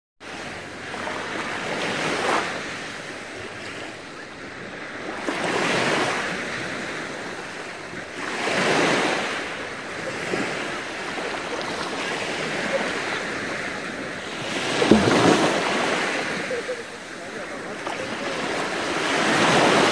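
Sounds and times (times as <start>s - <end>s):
small waves washing on sand: 0.2s - 19.9s.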